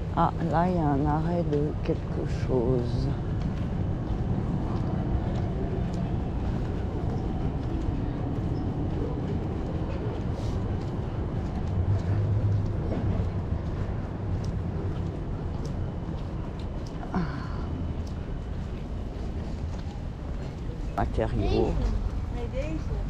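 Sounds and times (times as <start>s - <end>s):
tram rumbling on rails: 0.0s - 23.0s.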